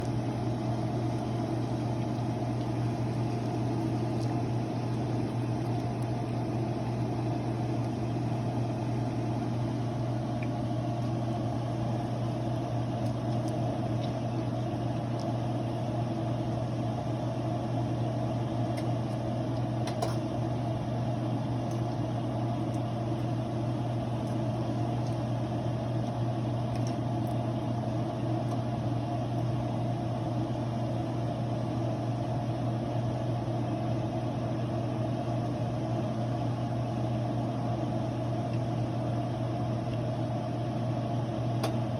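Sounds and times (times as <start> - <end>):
low motor hum: 0.0 - 41.9.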